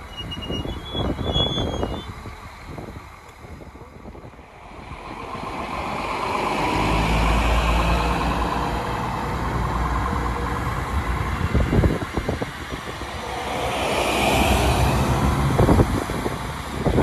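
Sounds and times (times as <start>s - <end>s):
diesel railcar engines running: 0.0s - 17.0s.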